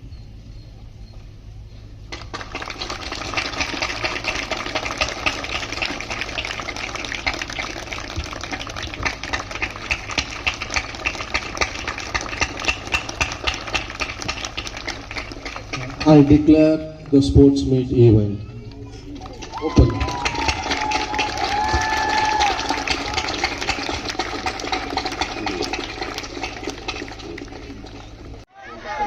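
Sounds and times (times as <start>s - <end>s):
crowd applause: 2.1s - 17.2s, 18.9s - 29.0s.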